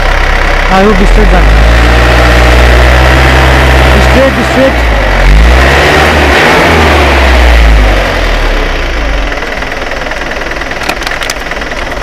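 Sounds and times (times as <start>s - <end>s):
truck engine under load: 0.0s - 12.0s.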